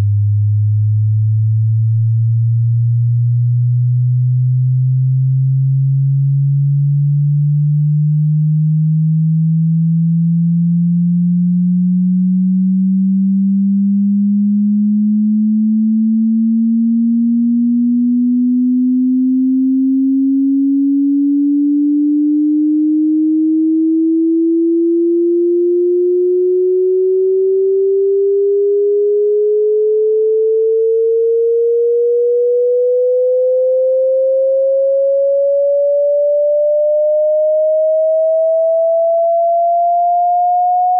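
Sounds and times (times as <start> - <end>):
sine-wave tone sweeping upward: 0.0 - 40.9.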